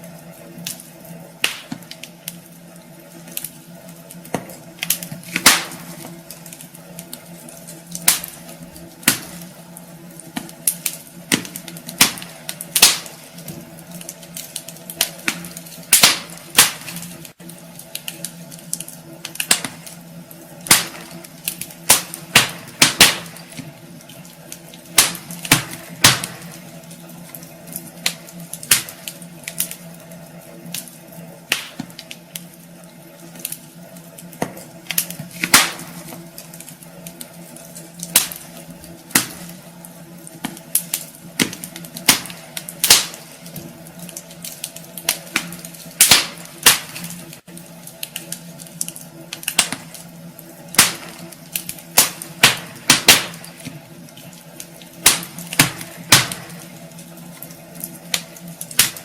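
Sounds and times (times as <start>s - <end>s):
faint steady hum: 0.0s - 59.0s
wood fire crackling: 0.0s - 59.0s.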